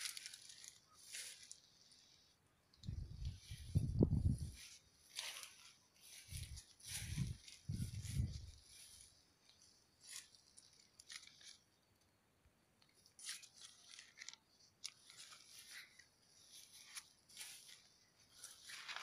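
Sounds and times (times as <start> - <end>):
leaves and twigs rustling: 0.0 - 12.1, 12.8 - 19.0.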